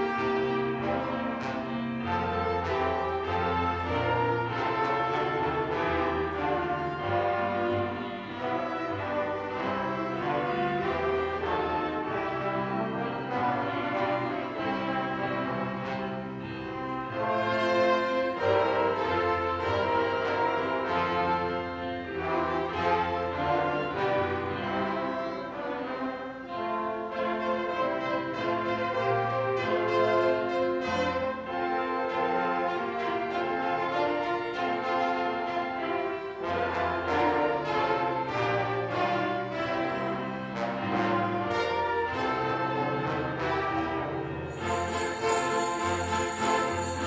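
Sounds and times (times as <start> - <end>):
brass and strings orchestra: 0.0 - 47.0
horn-like brass melody: 0.0 - 47.0.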